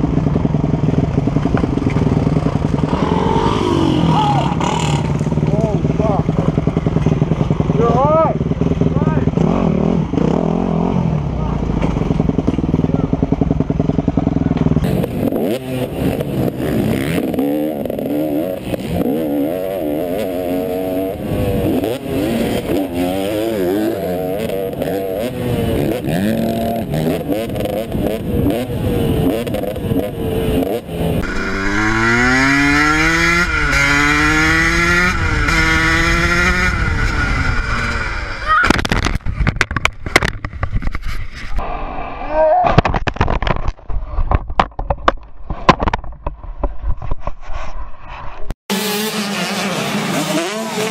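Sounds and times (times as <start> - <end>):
dirt bike engine revving: 0.0 - 39.4, 48.7 - 50.9.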